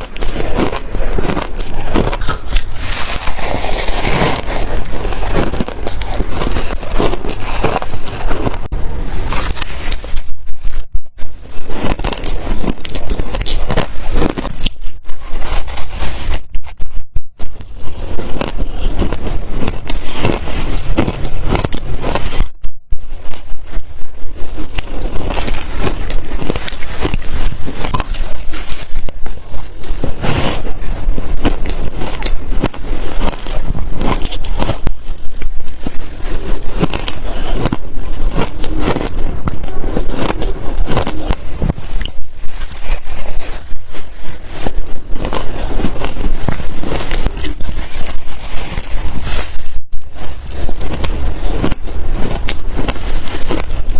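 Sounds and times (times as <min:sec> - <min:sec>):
shaved ice being chewed: 0:00.0 - 0:16.8, 0:17.4 - 0:53.9.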